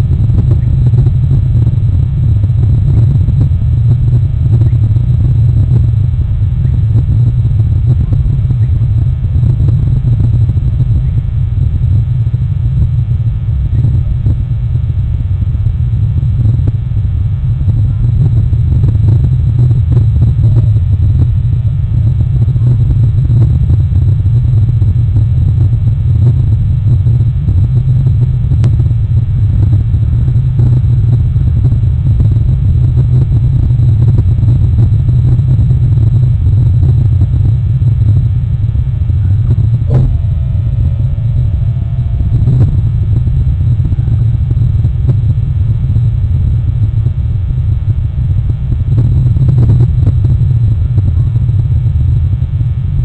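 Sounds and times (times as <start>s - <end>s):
loud low rumble: 0.0s - 53.0s.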